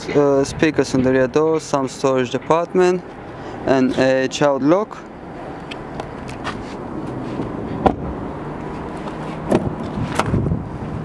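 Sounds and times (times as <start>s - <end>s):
traffic rumble and hum: 0.0s - 11.0s.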